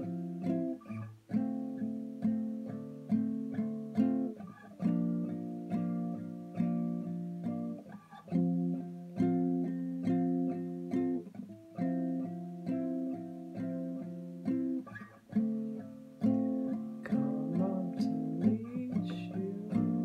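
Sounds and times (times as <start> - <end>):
classical guitar chords: 0.0 - 20.0.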